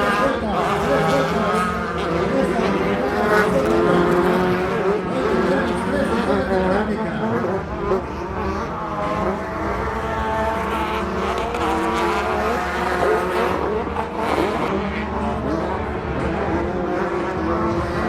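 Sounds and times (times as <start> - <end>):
racing engines revving: 0.0 - 18.0.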